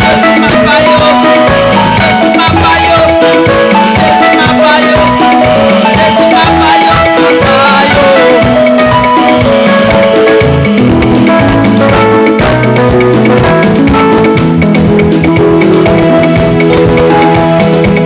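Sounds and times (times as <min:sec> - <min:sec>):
loud music with drums: 0:00.0 - 0:18.0.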